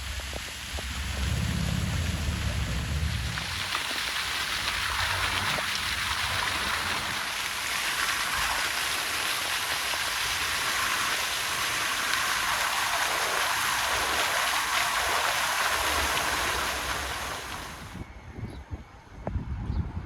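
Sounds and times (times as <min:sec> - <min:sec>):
rushing splashing water: 0:00.0 - 0:18.0.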